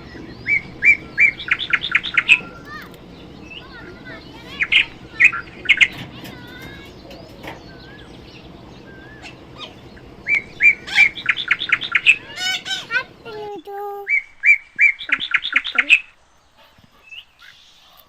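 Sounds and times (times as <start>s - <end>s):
low background hum: 0.0s - 18.0s
parrots chirping: 0.0s - 18.0s.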